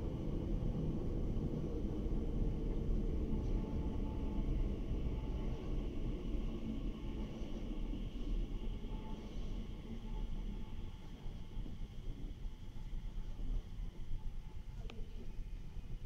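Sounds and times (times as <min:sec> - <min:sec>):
faint steady hums: 0:00.0 - 0:16.0
low rumble of railway platform: 0:00.0 - 0:16.0.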